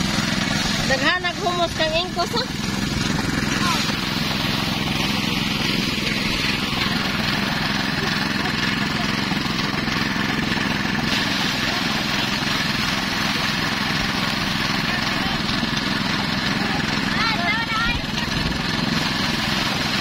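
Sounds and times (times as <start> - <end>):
small engine running: 0.0 - 20.0
thresher drum spinning: 0.0 - 20.0.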